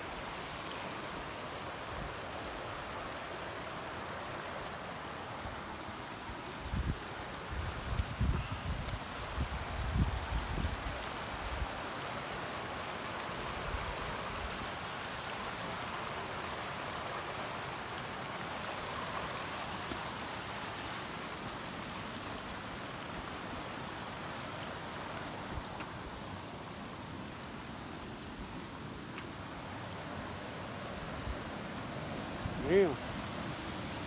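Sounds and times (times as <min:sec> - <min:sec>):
waterfall rushing water: 0:00.0 - 0:34.0.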